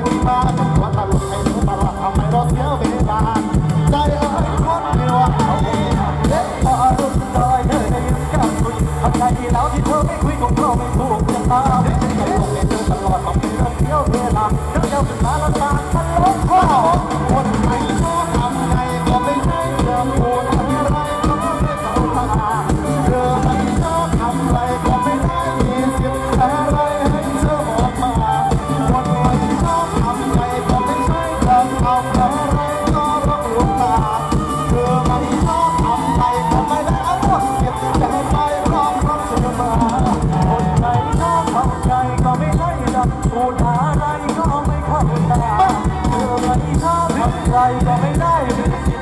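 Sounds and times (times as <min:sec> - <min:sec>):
band music over loudspeakers: 0:00.0 - 0:49.0
driving drum beat: 0:00.0 - 0:49.0.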